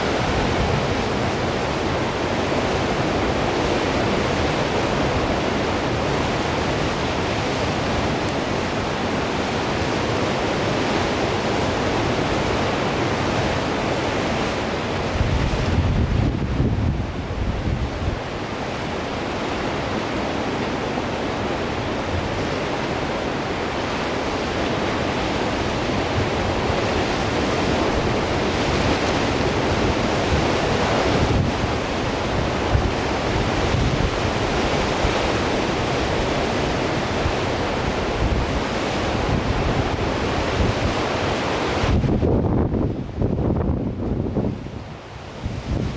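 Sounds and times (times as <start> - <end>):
wind buffeting microphone: 0.0 - 19.0, 24.7 - 45.9
surf breaking on shore: 0.0 - 45.9.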